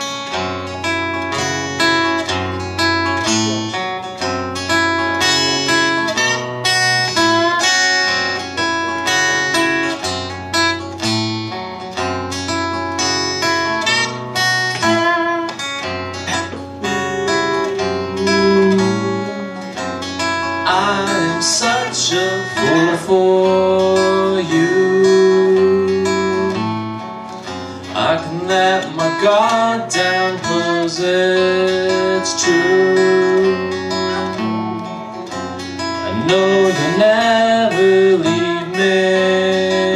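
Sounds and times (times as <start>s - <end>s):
acoustic guitar strumming chords: 0.0s - 39.9s.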